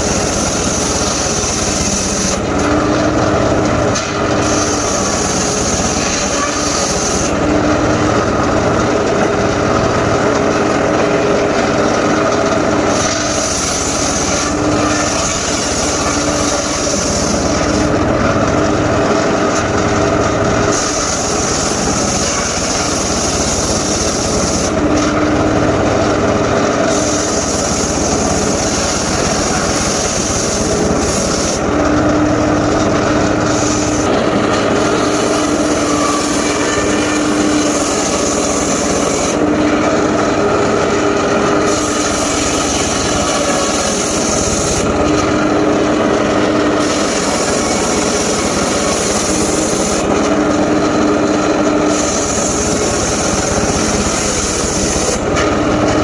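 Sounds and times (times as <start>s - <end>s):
circular saw blade whining through wood: 0.0s - 56.0s
sawmill engine running: 0.0s - 56.0s.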